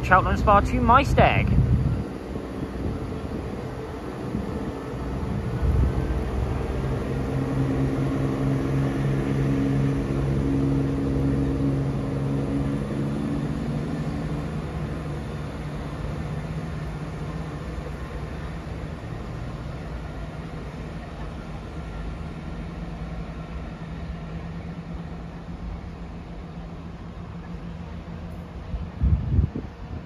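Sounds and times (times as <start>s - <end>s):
diesel train engines pulling away: 0.0s - 30.0s.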